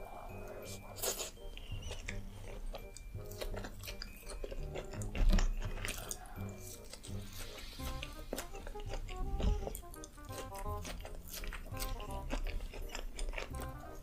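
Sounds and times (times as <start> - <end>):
background music: 0.0 - 14.0
person chewing with wet mouth sounds: 0.0 - 14.0.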